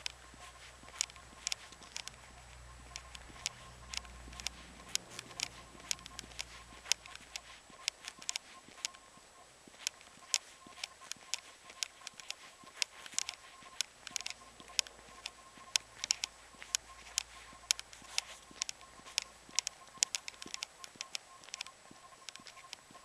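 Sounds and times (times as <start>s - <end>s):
footsteps on gritty asphalt: 0.0s - 23.0s.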